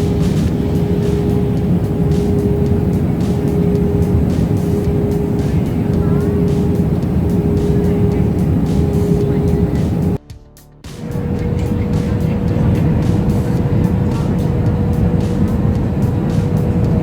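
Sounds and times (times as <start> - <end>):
droning hum: 0.0 - 10.2, 11.0 - 17.0
vehicle rumble: 0.0 - 10.2, 10.9 - 17.0.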